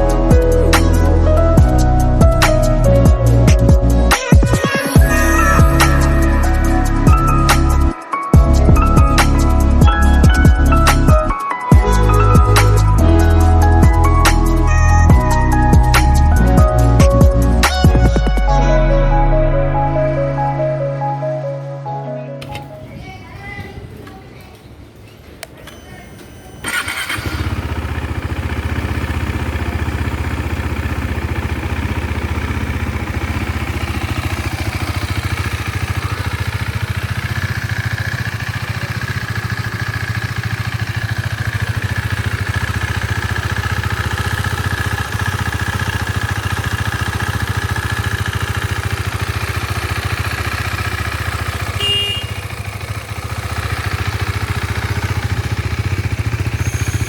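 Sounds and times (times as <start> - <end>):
motorcycle engine idling: 0.0 - 18.4, 22.5 - 57.0.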